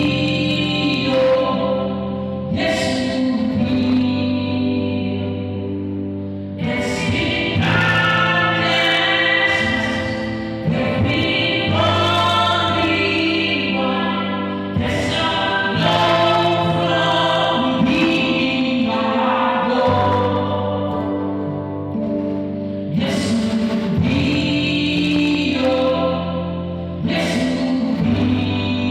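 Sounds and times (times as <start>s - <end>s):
choir singing gospel: 0.0s - 22.1s, 23.0s - 28.9s
sustained low chords: 0.0s - 28.9s.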